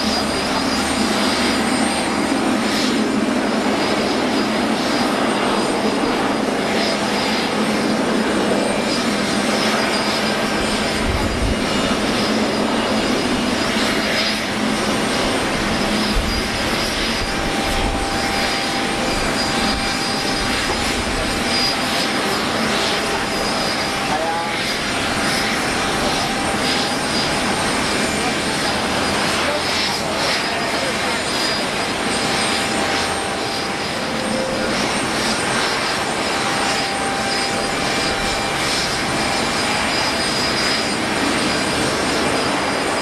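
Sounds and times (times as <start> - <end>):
high jet engine whine: 0.0 - 43.0
jet airliner taxiing: 0.0 - 43.0.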